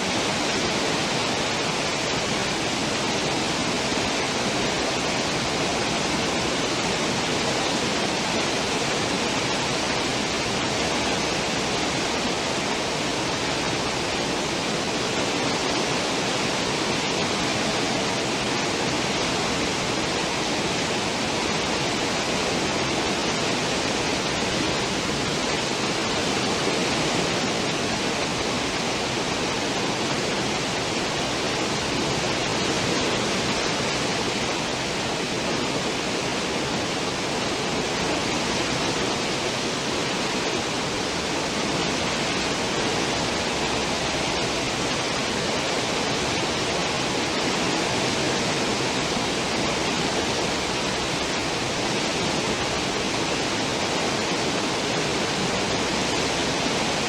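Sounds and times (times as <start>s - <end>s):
ship wake water roaring: 0.0s - 57.0s.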